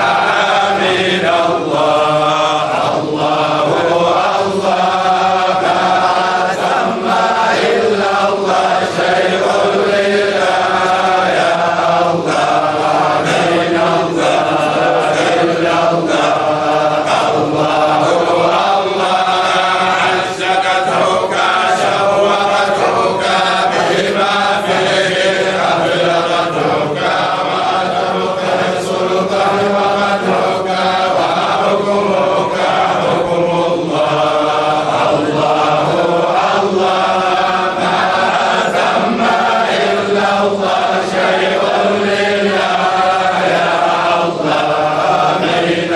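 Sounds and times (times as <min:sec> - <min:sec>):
voices singing a slow religious chant: 0:00.0 - 0:45.9.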